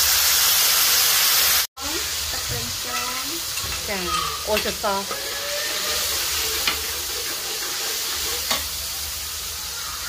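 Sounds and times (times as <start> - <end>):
sauce sizzling in a wok: 0.0 - 10.0.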